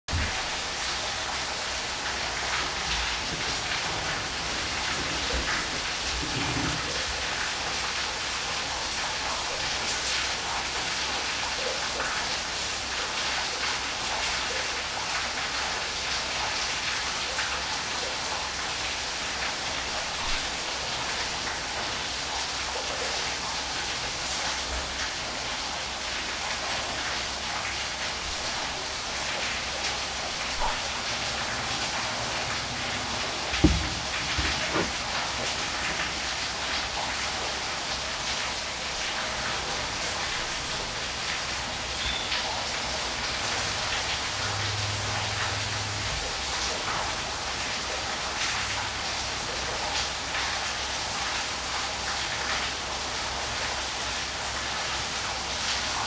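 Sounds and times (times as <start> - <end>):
waterfall rushing: 0.1 - 52.1.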